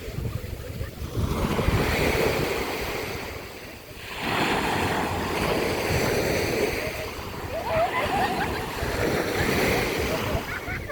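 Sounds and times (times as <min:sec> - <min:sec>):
sea waves washing in: 0:00.0 - 0:10.9
wind rumbling on microphone: 0:00.0 - 0:10.9.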